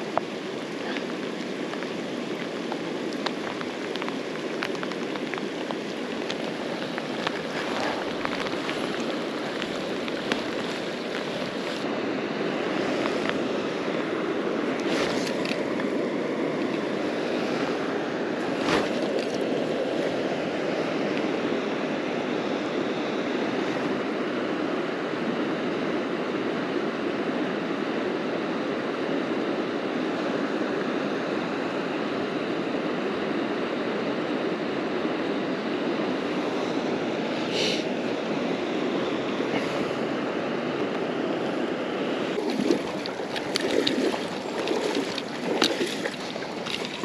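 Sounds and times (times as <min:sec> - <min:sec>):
river water flowing: 0:00.0 - 0:47.0.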